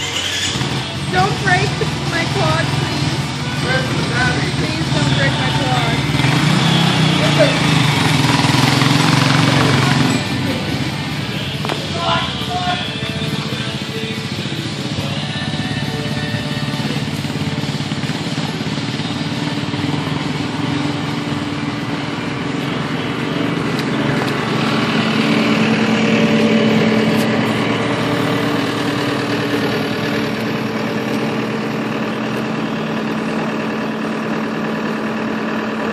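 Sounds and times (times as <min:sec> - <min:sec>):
quad engine running: 0:00.0 - 0:35.9.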